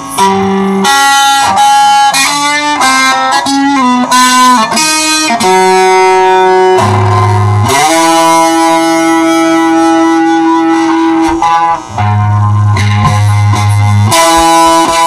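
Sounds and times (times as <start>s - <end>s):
electric guitar melody: 0.0s - 15.0s.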